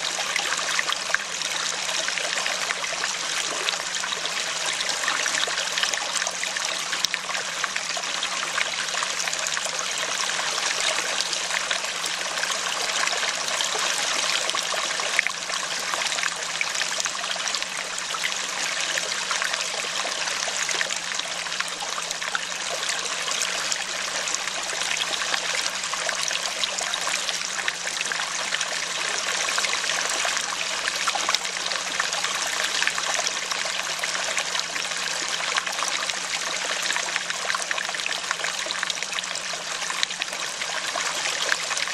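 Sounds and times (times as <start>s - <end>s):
stream flowing: 0.0s - 41.9s.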